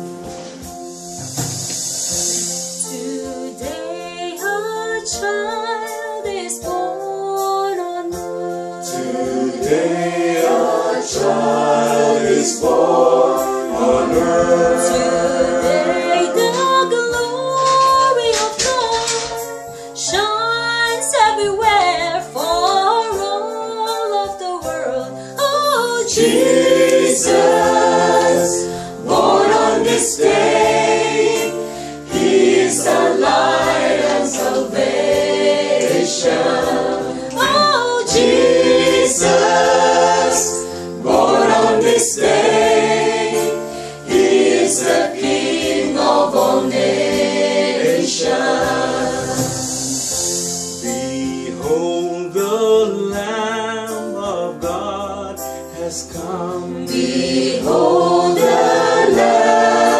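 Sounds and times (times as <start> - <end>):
group singing together: 0.0 - 5.9, 8.0 - 19.8, 25.8 - 53.1, 54.8 - 59.9.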